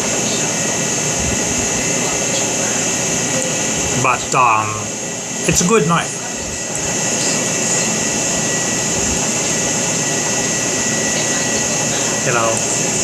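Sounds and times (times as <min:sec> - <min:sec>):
faint high whine: 0:00.0 - 0:13.0
rushing machine noise: 0:00.0 - 0:13.0.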